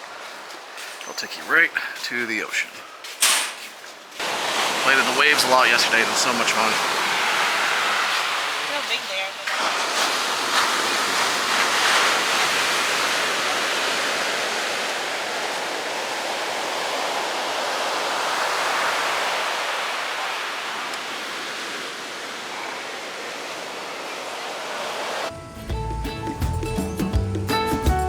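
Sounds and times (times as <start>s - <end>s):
waves breaking on shore: 0.0s - 2.4s, 3.2s - 25.3s.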